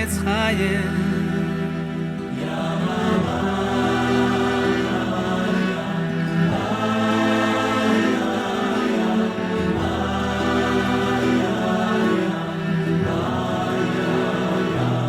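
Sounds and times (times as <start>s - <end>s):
choir singing wordless chords: 0.0s - 15.0s
sustained accompaniment: 0.0s - 15.0s.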